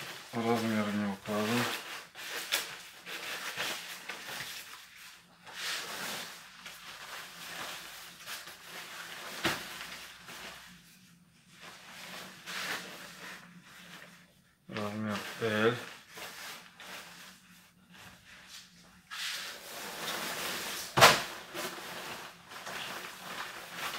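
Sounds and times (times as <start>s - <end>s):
raincoats rustling and crinkling: 0.0s - 23.9s.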